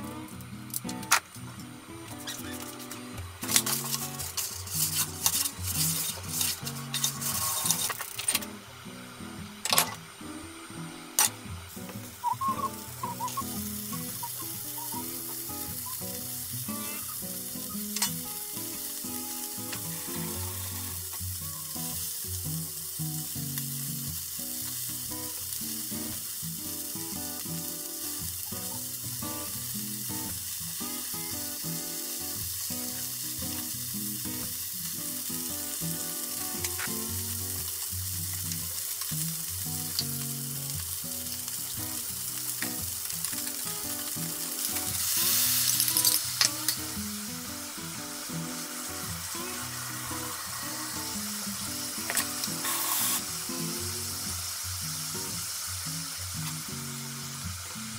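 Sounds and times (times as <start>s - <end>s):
meat sizzling in a frying pan: 0.0s - 57.9s.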